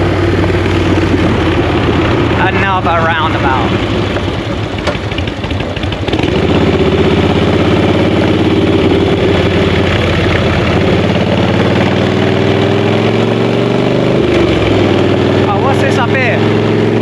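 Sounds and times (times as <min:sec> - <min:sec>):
motorcycle engine accelerating: 0:00.0 - 0:17.0
steady rushing noise: 0:00.0 - 0:17.0.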